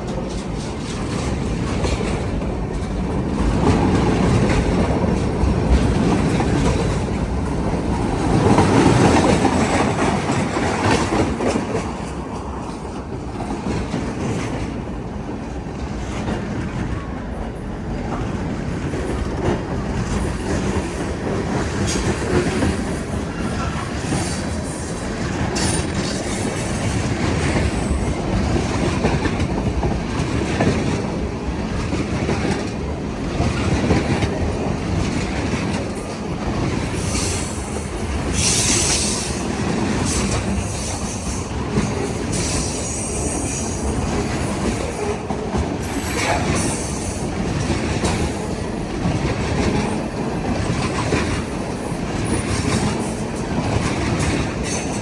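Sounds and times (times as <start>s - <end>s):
train wheels rumbling and clattering: 0.0s - 55.0s.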